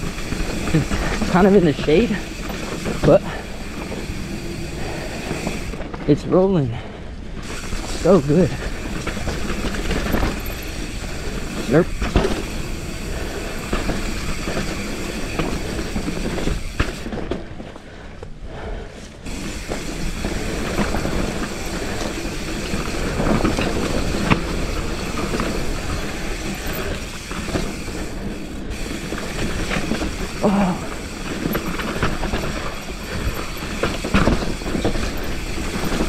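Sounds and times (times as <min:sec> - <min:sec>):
bike frame and chain rattling: 0:00.0 - 0:17.8, 0:19.2 - 0:36.0
bike tyres rushing on dirt: 0:00.0 - 0:36.0.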